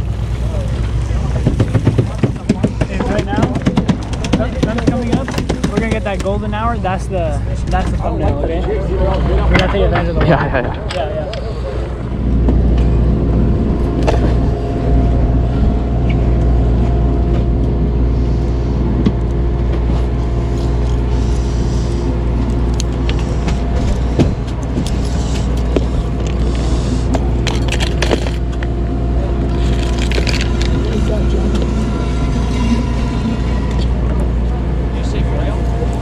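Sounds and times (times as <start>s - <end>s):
boat engines droning: 0.0s - 36.0s.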